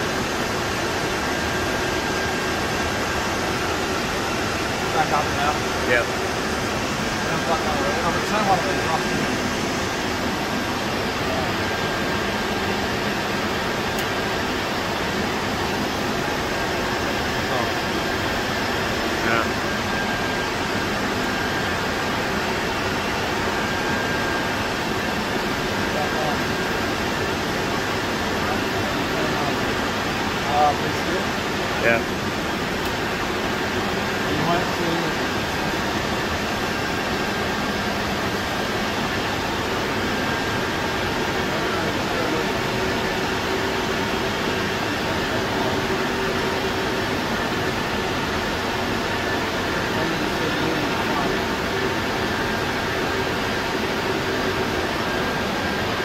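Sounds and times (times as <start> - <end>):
faint steady whine: 0.0 - 56.0
rush of cooling fans: 0.0 - 56.0.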